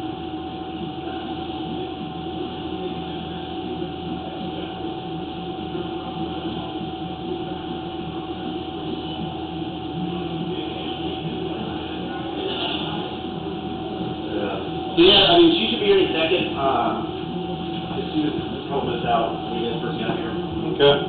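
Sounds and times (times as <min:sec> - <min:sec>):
faint muffled voices: 0:00.0 - 0:21.0
machine drone with high whine: 0:00.0 - 0:21.0.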